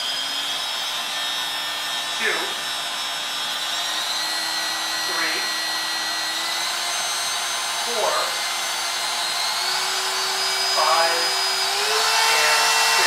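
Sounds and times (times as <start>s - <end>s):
router motor whining: 0.0s - 13.0s.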